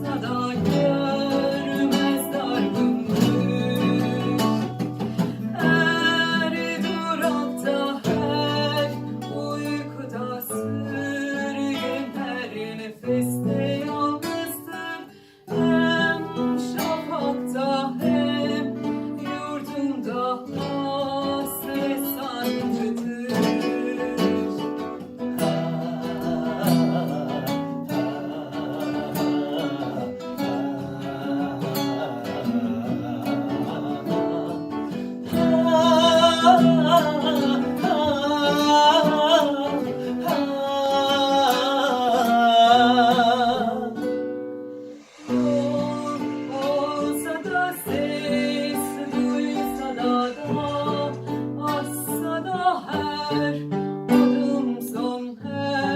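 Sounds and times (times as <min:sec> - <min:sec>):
acoustic guitars strumming: 0:00.0 - 0:55.9.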